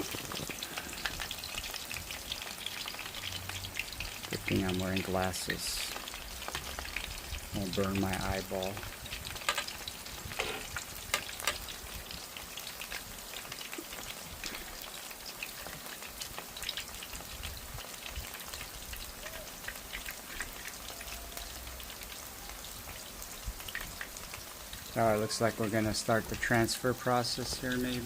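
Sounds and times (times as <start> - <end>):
oil crackling and spattering: 0.0 - 28.0.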